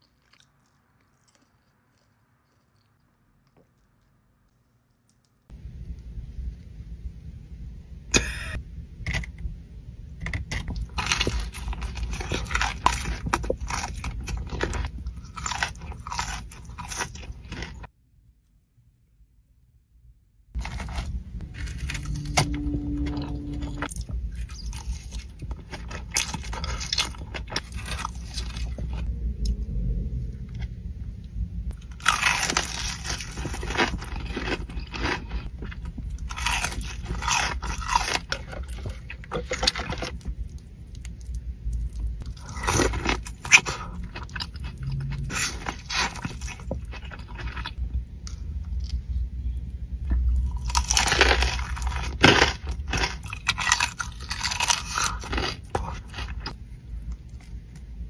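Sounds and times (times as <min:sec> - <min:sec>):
person crunching and chewing food: 0:00.0 - 0:05.6, 0:10.2 - 0:17.9, 0:20.6 - 0:30.8, 0:31.7 - 0:58.0.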